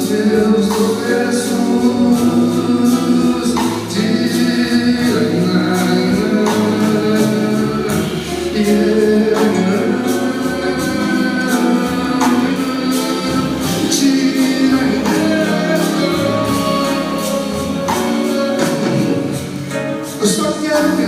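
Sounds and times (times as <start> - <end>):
live band playing: 0.0 - 21.0
singing voices: 0.0 - 21.0.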